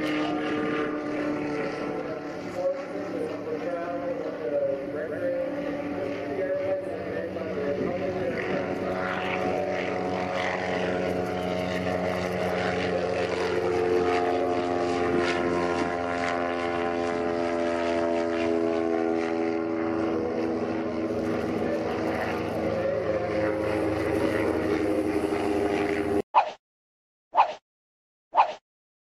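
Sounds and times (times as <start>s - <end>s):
propeller aircraft flying past: 0.0s - 26.2s.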